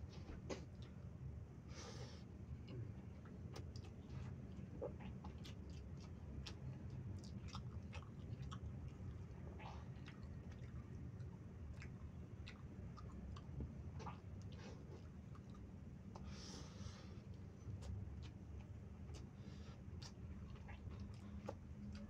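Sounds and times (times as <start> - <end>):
steady low hum: 0.0 - 22.0
chewing rice: 2.5 - 22.0.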